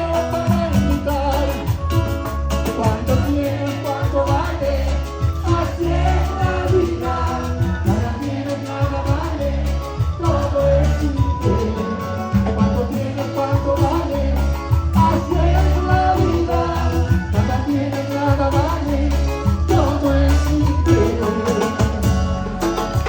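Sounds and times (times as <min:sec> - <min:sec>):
latin american music: 0:00.0 - 0:23.0
steady bass line: 0:00.0 - 0:23.0.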